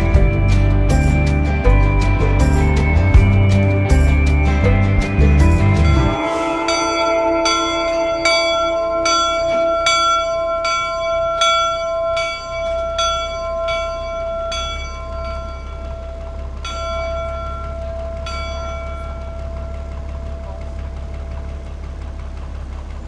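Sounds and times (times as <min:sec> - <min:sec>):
locomotive bell ringing: 0:00.0 - 0:23.0
low steady hum: 0:00.0 - 0:23.0.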